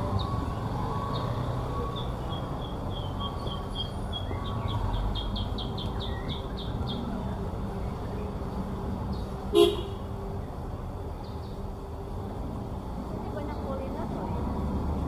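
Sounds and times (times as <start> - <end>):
songbird chirping: 0.0 - 12.7
motorcycles passing: 0.0 - 15.0
street traffic rumble: 0.0 - 15.0.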